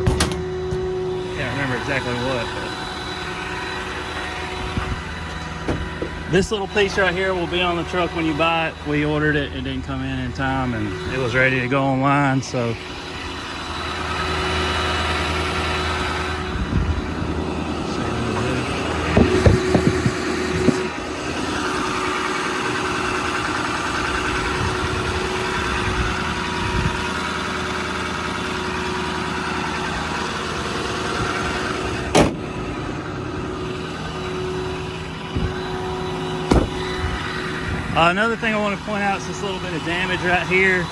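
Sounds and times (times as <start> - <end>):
engine knocks: 0.0 - 11.7, 12.8 - 40.9
engine idling: 0.0 - 40.9.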